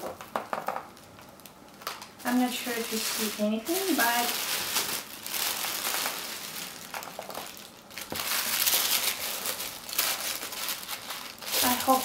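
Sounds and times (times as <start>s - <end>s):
tissue paper rustling: 2.2s - 12.0s.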